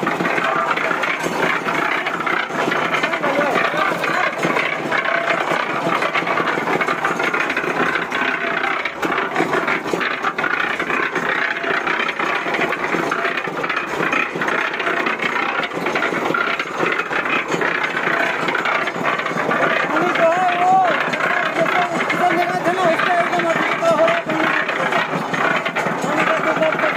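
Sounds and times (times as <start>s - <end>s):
cement mixer drum rattling: 0.0s - 26.9s.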